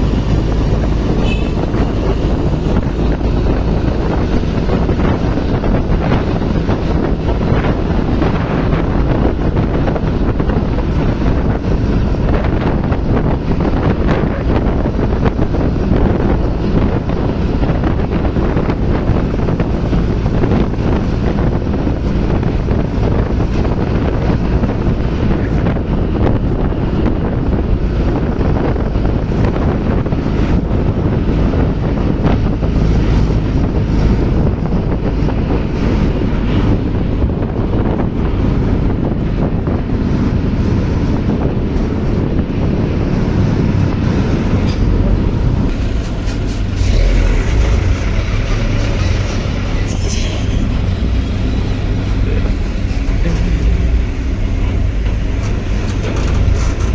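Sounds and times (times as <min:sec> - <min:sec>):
heavy engine running: 0:00.0 - 0:56.9
wind buffeting microphone: 0:00.0 - 0:56.9.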